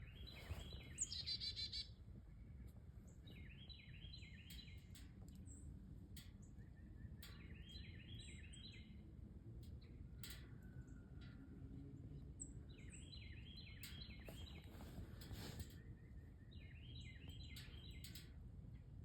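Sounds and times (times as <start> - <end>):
songbirds calling: 0.0 - 19.0.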